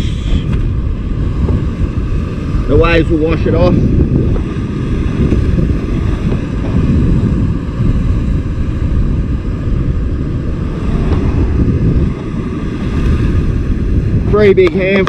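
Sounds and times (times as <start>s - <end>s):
ocean waves against rocks: 0.0s - 15.0s
wind buffeting microphone: 0.0s - 15.0s.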